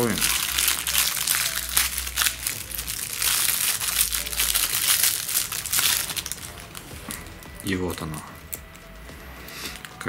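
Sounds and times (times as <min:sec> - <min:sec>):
plastic packet crinkling: 0:00.0 - 0:08.9.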